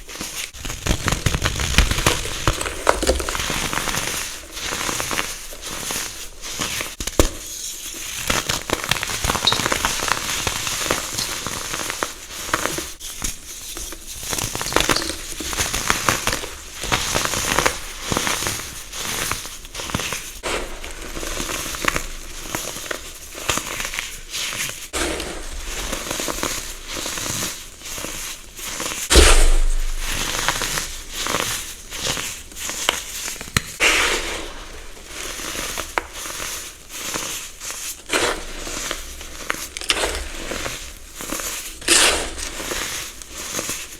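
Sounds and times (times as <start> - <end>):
brittle material crunching: 0.1 - 33.8, 34.5 - 43.9.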